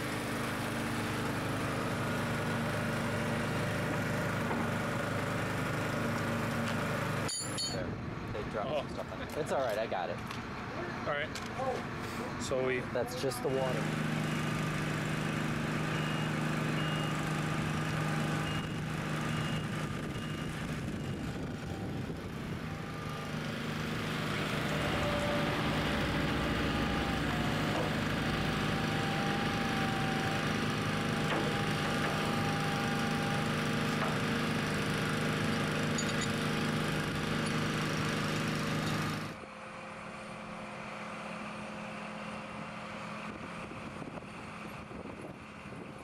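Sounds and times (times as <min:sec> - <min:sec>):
forklift engine running: 0:00.0 - 0:07.8, 0:11.8 - 0:46.0.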